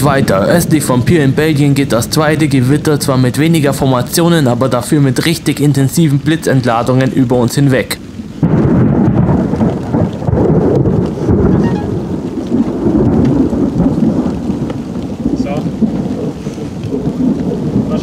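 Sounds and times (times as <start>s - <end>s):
rolling thunder: 0.0s - 18.0s.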